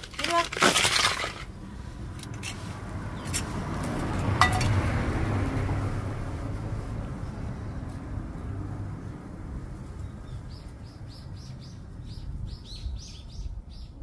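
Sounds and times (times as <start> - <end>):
motor vehicle passing by: 1.6 - 13.9.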